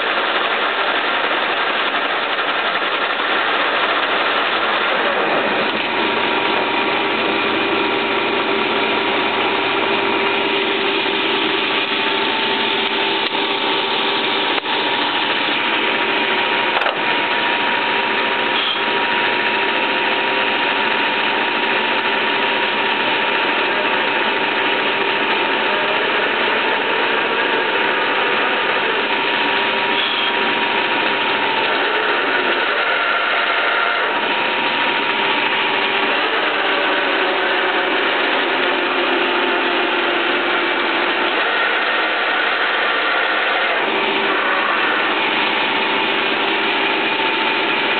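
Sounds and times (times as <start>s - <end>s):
lathe gear whine: 0.0s - 47.9s
lathe mechanical din: 0.0s - 47.9s.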